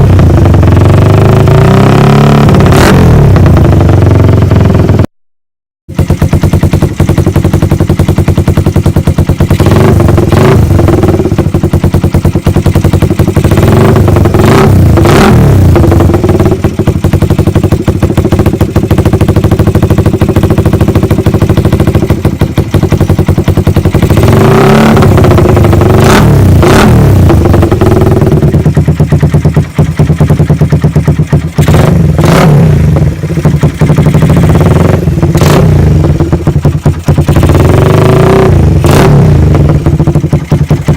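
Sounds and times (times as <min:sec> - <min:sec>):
motorcycle engine idling and revving: 0:00.0 - 0:05.1, 0:05.9 - 0:40.9.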